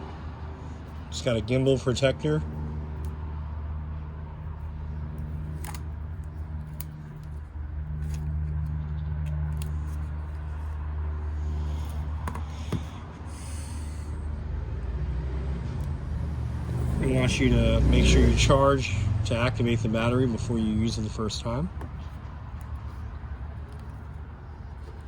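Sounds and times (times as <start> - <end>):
engine drone: 0.0 - 25.0
road traffic hum: 0.0 - 25.0.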